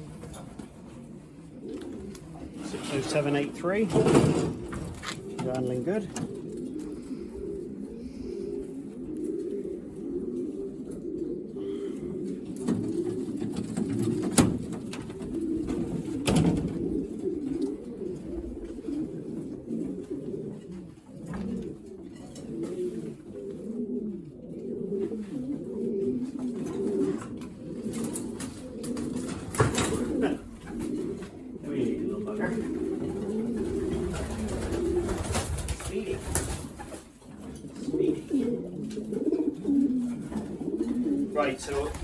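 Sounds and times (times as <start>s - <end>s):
pigeons cooing: 0.0s - 42.0s.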